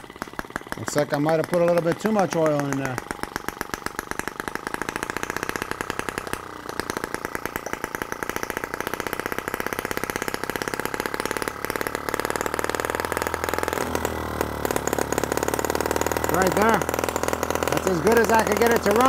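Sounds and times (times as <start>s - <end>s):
small engine running fast: 0.0s - 19.0s.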